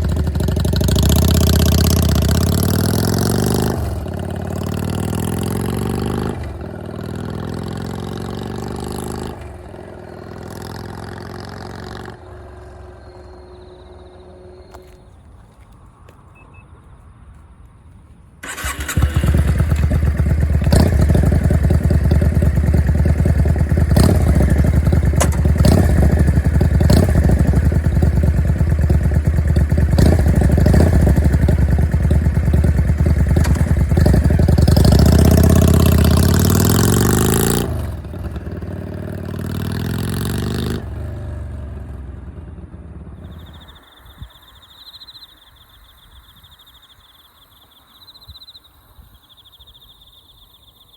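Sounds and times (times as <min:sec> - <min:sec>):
motorcycle engine idling and revving: 0:00.0 - 0:15.2, 0:18.4 - 0:45.2.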